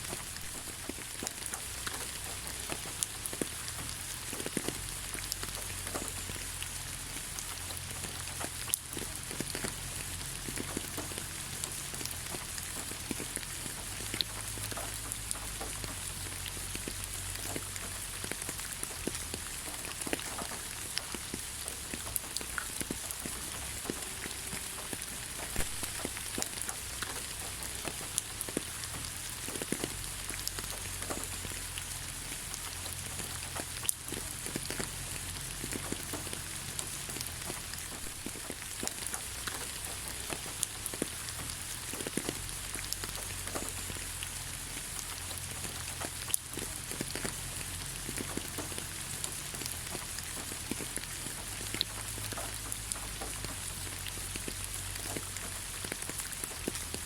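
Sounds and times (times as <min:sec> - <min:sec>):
raindrop drip ticks: 0:00.0 - 0:57.0
steady rain hiss: 0:00.0 - 0:57.0.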